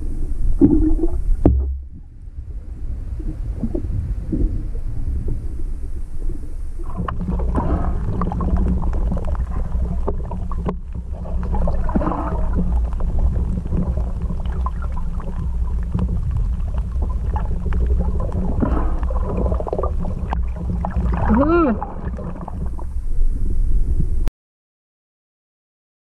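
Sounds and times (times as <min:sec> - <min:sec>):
bubbly gurgles: 0:00.0 - 0:23.0
low rumble of water underwater: 0:00.0 - 0:24.3.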